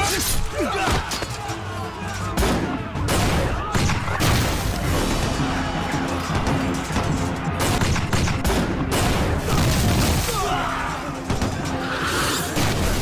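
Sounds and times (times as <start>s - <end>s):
background music: 0.0s - 13.0s
battle bangs and blasts: 2.2s - 13.0s.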